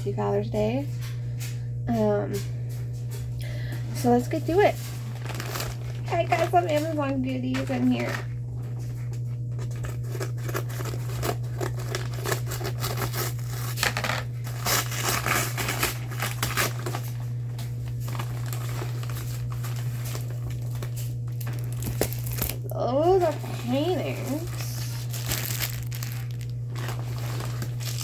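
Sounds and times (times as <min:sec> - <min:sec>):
steady low hum: 0:00.0 - 0:28.0
packaging crinkling and tearing: 0:04.7 - 0:28.0.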